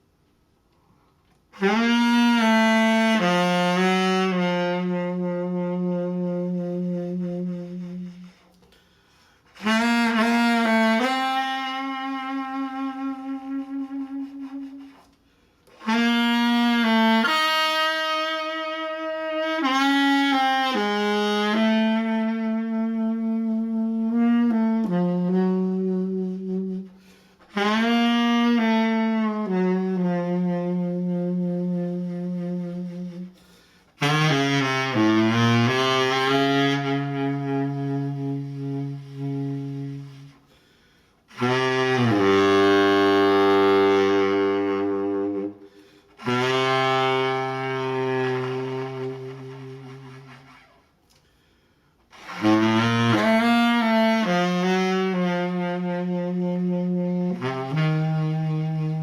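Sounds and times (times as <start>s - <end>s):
solo saxophone melody: 0.0s - 59.0s.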